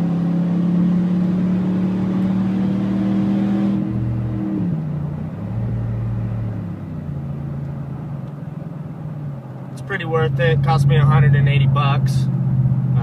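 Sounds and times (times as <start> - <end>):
truck engine exhaust at full throttle: 0.8 - 13.0.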